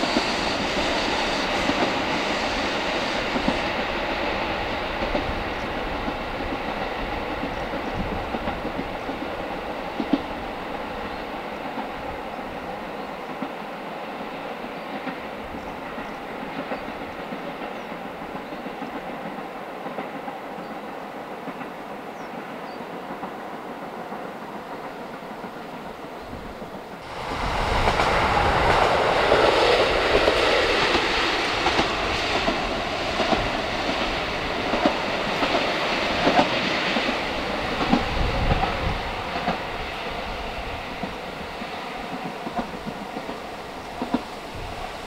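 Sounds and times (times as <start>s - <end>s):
diesel train passing: 0.0s - 45.0s.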